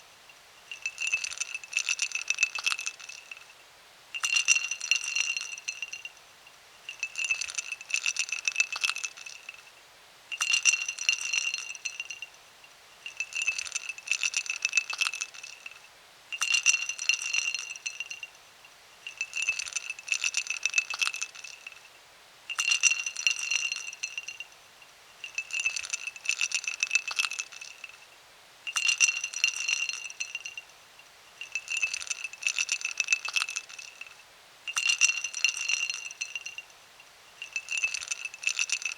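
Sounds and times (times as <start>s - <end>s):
ice cubes clinking in a glass: 0.7s - 3.5s, 4.2s - 6.2s, 6.9s - 9.7s, 10.3s - 12.4s, 13.0s - 18.4s, 19.0s - 21.9s, 22.5s - 24.5s, 25.2s - 28.0s, 28.7s - 30.7s, 31.4s - 36.7s, 37.4s - 38.9s.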